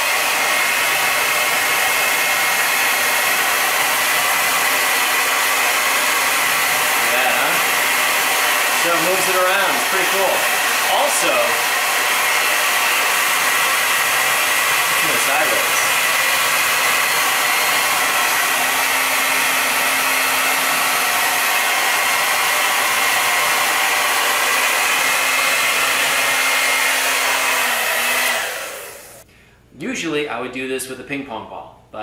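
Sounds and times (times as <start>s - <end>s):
hair dryer blowing: 0.0s - 29.3s.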